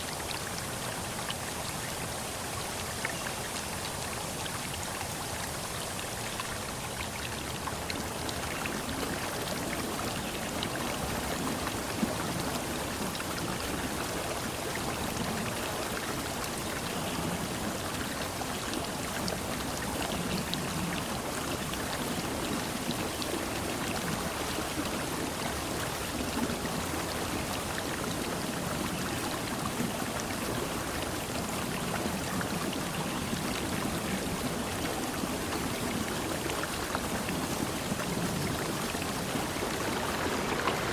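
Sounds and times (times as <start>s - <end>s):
water splashing and trickling: 0.0s - 40.9s.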